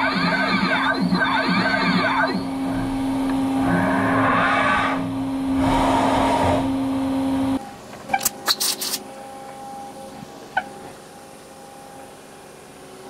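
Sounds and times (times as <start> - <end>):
machine spindle hum: 0.0 - 13.0.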